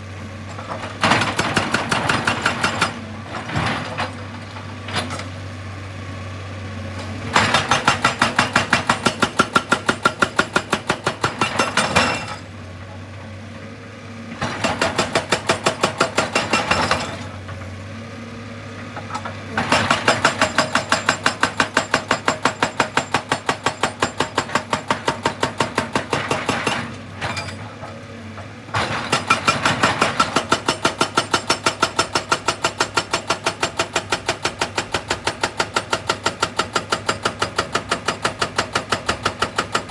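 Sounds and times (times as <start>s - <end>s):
hydraulic breaker hammering rock: 0.5s - 5.4s, 7.0s - 12.5s, 14.3s - 17.8s, 18.9s - 39.9s.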